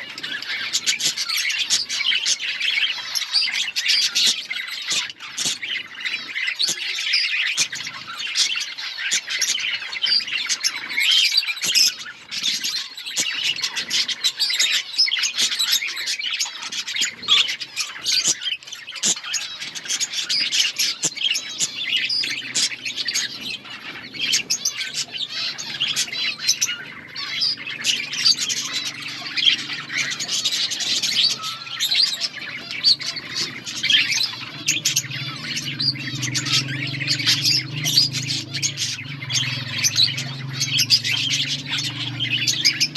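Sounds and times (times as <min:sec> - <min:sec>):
budgerigars chirping and chattering: 0:00.0 - 0:42.9.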